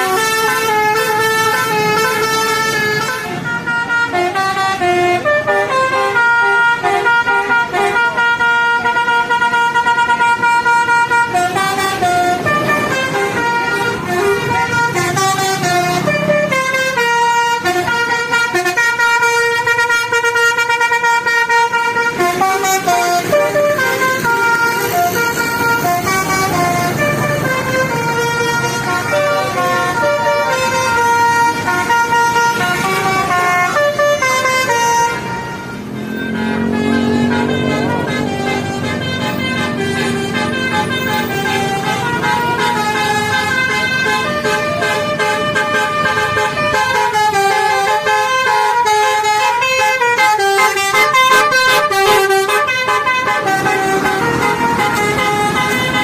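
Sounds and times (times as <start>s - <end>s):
low rumble of engines and traffic: 0.0s - 56.0s
musical air horns playing tunes: 0.0s - 56.0s.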